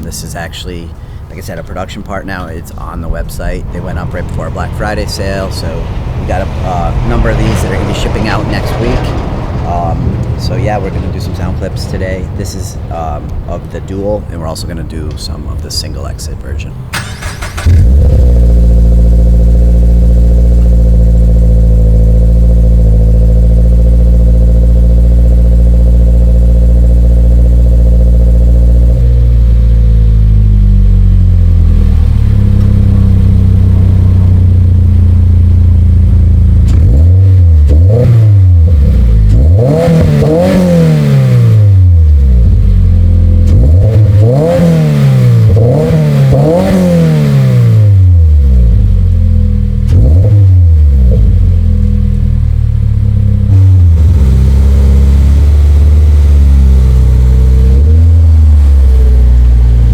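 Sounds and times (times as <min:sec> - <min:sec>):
car engine idling: 0:00.0 - 0:59.9
car engine revving: 0:00.0 - 0:59.9
car engine starting: 0:00.0 - 0:59.9.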